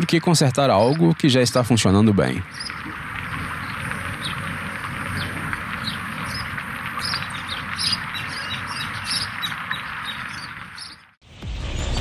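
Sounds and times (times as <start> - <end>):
small birds chirping: 0.1 - 1.2, 2.2 - 11.1.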